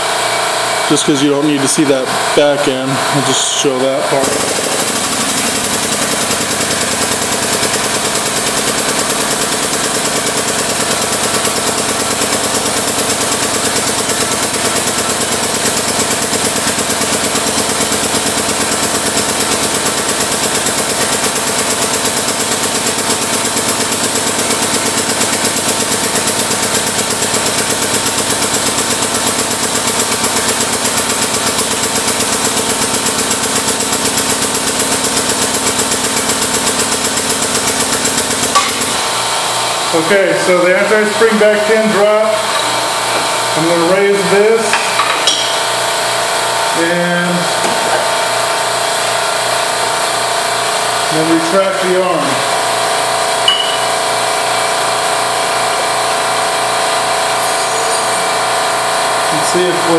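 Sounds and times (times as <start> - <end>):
air pump pulsing: 0.0 - 59.9.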